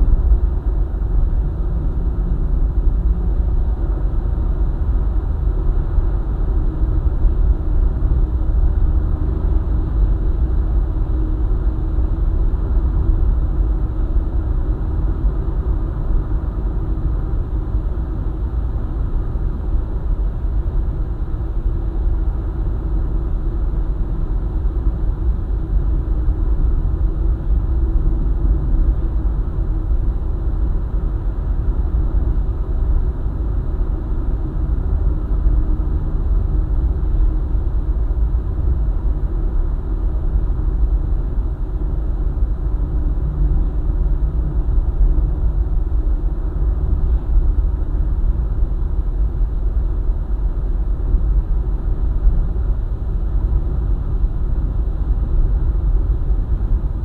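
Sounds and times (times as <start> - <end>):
car road rumble at cruising speed: 0.0 - 57.0.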